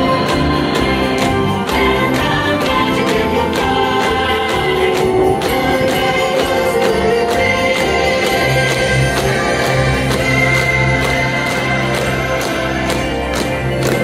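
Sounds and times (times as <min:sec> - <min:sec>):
parade music with steady beat: 0:00.0 - 0:14.0.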